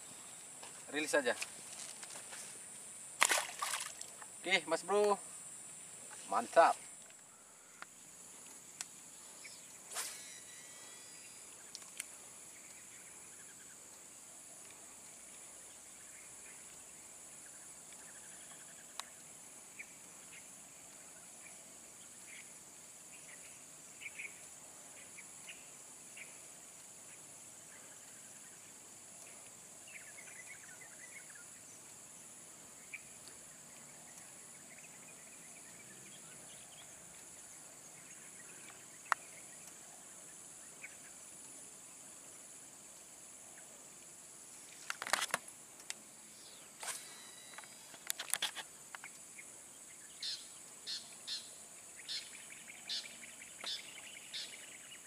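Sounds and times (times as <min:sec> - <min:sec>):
insect chorus: 0:00.0 - 0:55.0
short insect chirps: 0:00.0 - 0:55.0.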